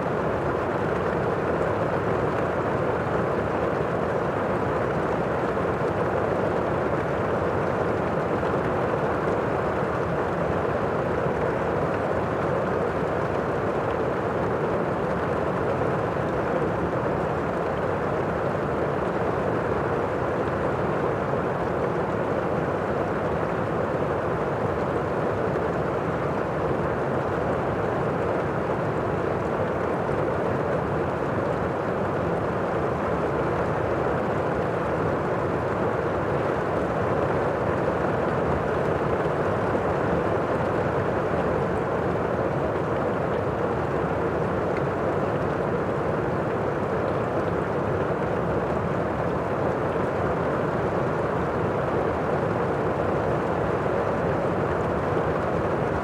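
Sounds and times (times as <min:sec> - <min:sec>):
muffled heavy rain: 0:00.0 - 0:56.0.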